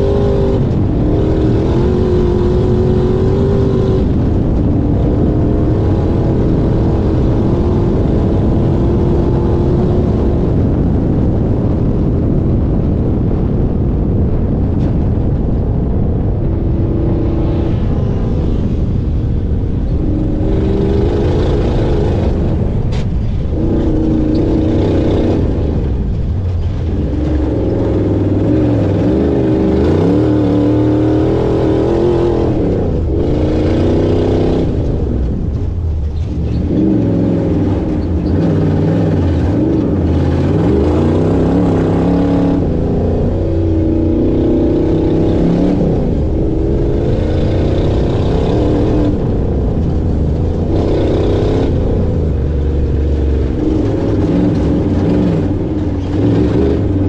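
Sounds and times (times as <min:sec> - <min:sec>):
race car engine revving: 0:00.0 - 0:12.6, 0:15.8 - 0:57.0.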